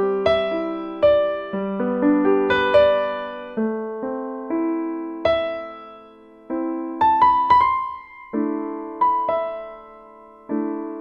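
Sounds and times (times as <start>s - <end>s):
keyboard melody: 0.0s - 11.0s.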